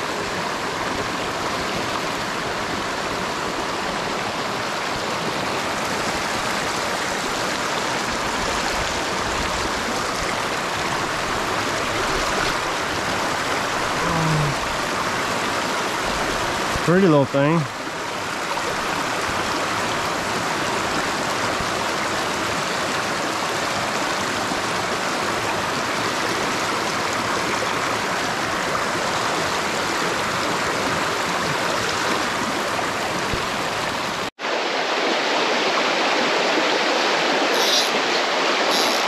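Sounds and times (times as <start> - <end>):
creek rushing over rocks: 0.0 - 39.0.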